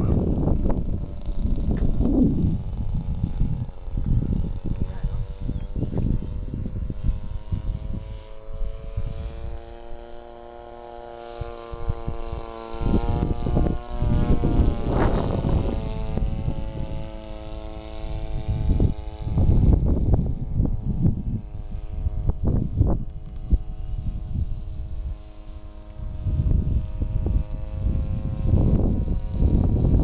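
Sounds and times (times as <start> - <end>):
model airplane engine: 0.0 - 30.0
wind buffeting microphone: 0.0 - 30.0.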